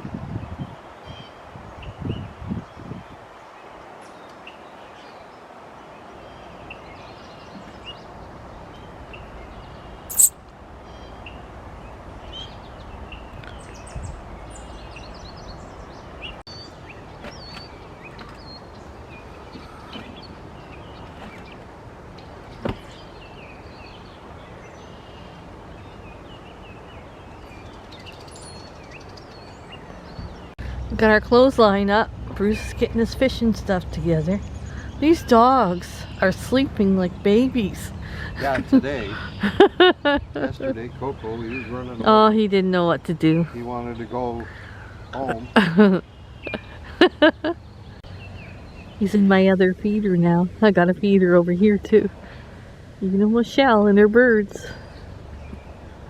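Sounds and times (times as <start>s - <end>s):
steady outdoor hiss: 0.0s - 56.0s
small birds chirping: 0.6s - 56.0s.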